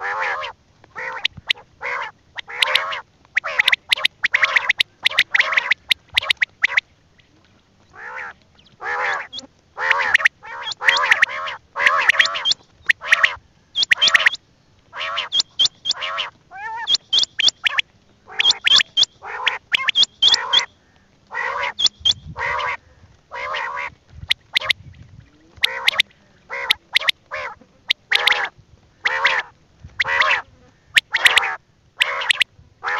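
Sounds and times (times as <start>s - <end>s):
quail calling: 0.0s - 6.8s, 7.9s - 32.9s.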